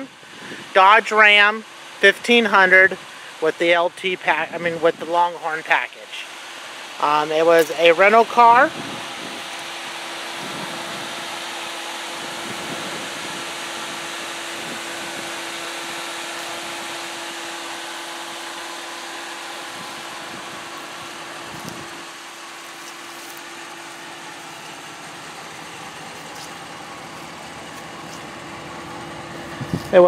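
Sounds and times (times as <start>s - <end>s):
pickup truck engine idling: 0.0s - 30.0s.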